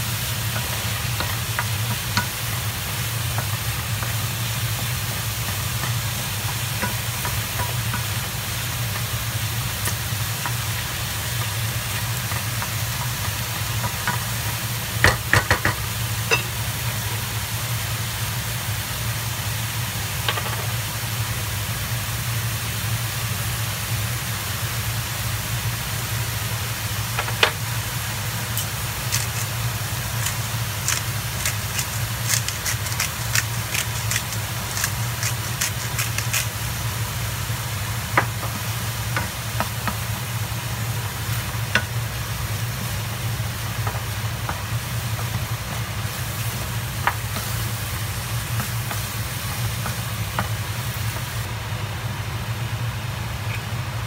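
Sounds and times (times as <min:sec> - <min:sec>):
vegetables sizzling in frying pan: 0:00.0 - 0:54.0.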